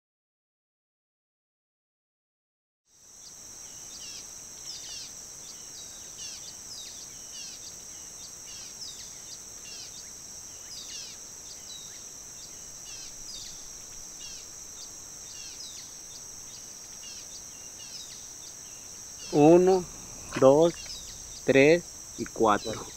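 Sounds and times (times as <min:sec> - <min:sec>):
high-pitched insect drone: 0:02.9 - 0:22.9
bird chirps: 0:03.7 - 0:22.9.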